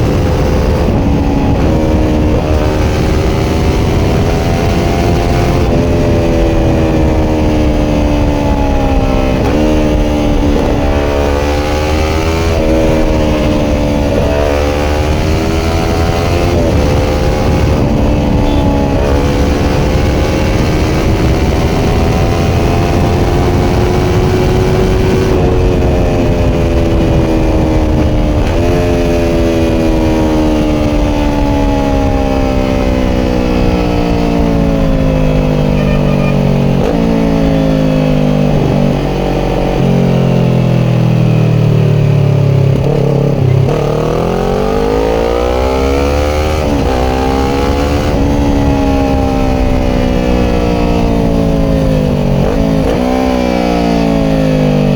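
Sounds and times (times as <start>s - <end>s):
motorcycle engine revving: 0.0s - 54.9s
wind and road noise: 0.0s - 54.9s.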